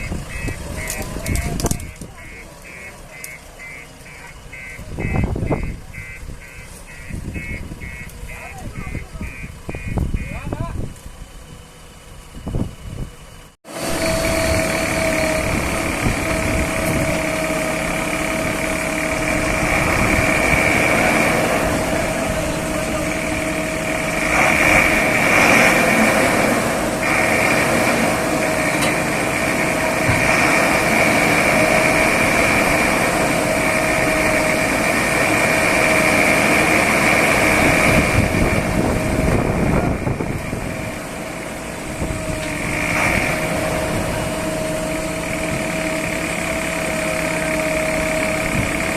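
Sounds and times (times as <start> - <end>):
backhoe diesel engine running: 0.0 - 48.9
constant high whine: 0.0 - 48.9.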